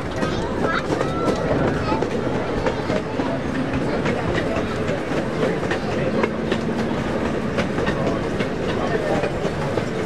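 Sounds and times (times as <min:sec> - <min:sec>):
train wheels rumbling on track: 0:00.0 - 0:10.0
wheels clicking over rail joints: 0:00.0 - 0:10.0.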